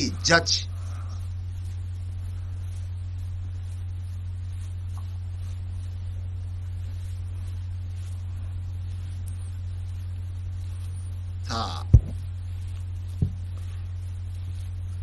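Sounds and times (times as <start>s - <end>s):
faint background hiss: 0.0s - 15.0s
low electrical hum: 0.0s - 15.0s.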